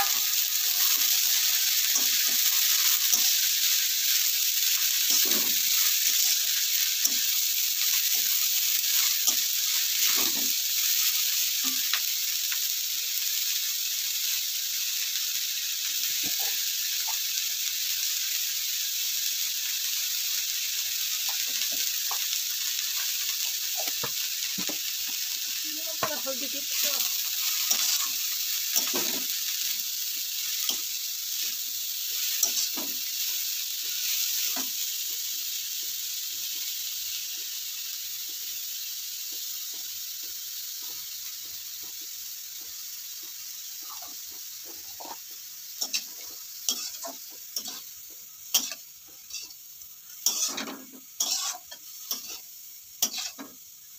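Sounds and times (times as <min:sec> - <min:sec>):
cabbage sizzling in oil: 0:00.0 - 0:53.9.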